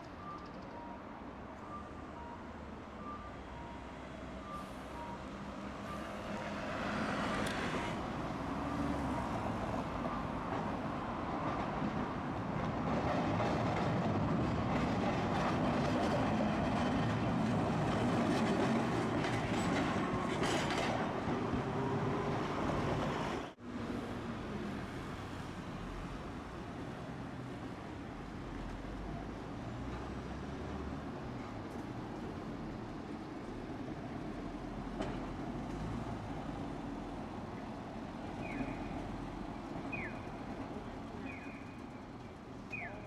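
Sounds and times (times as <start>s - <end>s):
streetcar rumbling on track: 0.0s - 43.0s.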